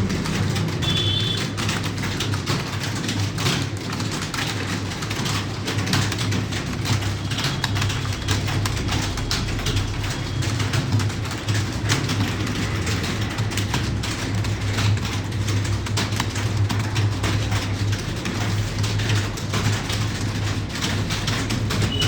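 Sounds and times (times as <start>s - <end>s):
many keyboards clattering: 0.0s - 22.0s.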